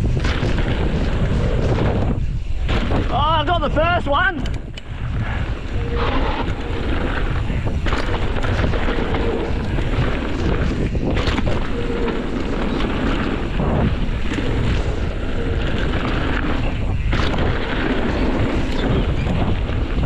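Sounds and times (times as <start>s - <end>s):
bike clattering over bumps: 0.0s - 3.6s, 5.4s - 20.0s
tyres rolling on dirt: 0.0s - 20.0s
wind rushing over microphone: 0.0s - 20.0s.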